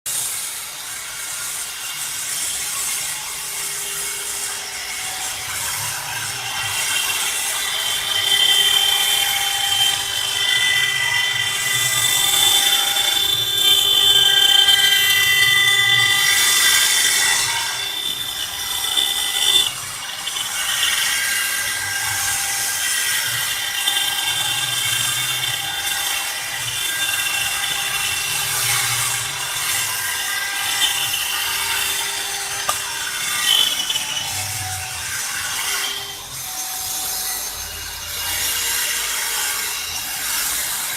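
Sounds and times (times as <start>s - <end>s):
stone carving machine whine: 0.1s - 40.9s
bit grinding stone: 4.0s - 38.9s.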